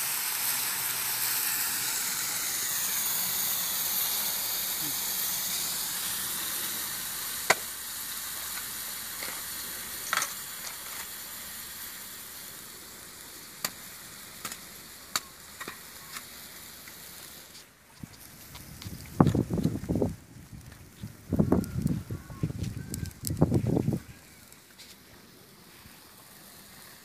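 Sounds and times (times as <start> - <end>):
chicken sizzling in a wok: 0.0 - 27.0.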